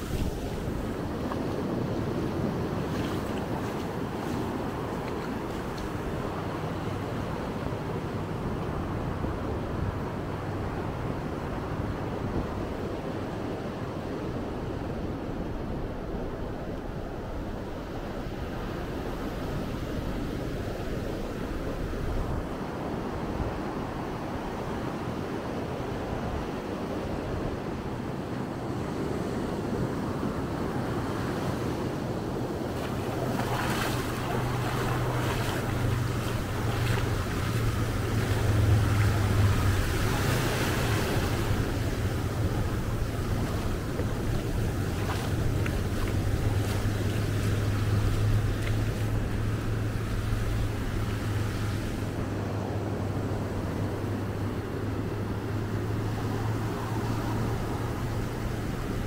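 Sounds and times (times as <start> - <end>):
wind buffeting microphone: 0.0 - 24.6, 29.0 - 59.0
ocean surf washing onto beach: 0.0 - 59.0.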